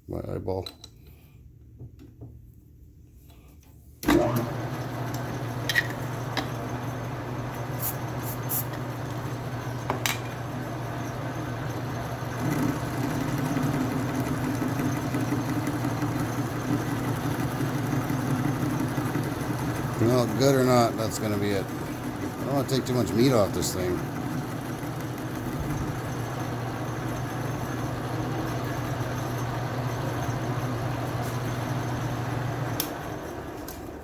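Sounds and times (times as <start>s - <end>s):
metal lathe humming: 4.1s - 33.7s.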